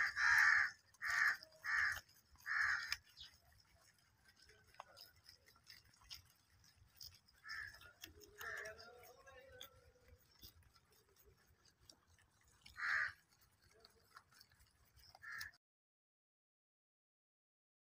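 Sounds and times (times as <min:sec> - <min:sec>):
rabbits nibbling grass: 0:00.0 - 0:15.6.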